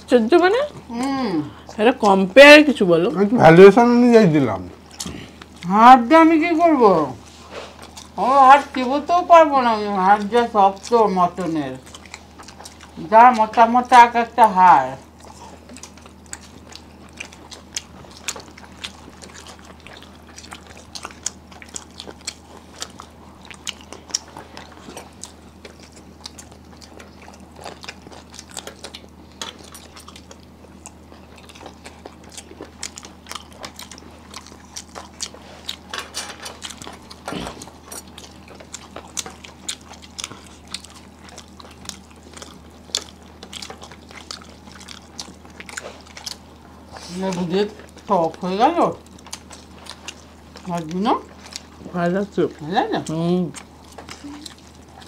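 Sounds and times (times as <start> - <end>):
close-up chewing and mouth clicks: 4.7 - 55.0.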